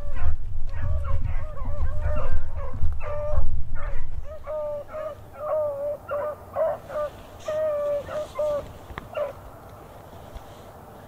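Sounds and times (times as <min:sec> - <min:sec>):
beagles baying: 0:00.0 - 0:09.8
low microphone rumble: 0:00.0 - 0:10.2.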